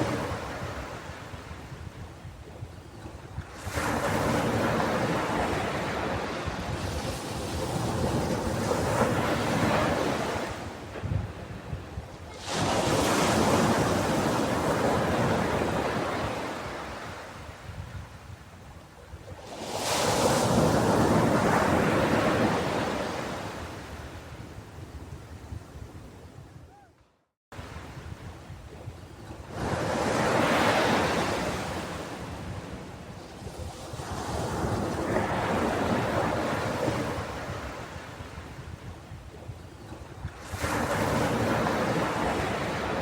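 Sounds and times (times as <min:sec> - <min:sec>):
ocean waves breaking on beach: 0:00.0 - 0:26.3, 0:27.6 - 0:43.0.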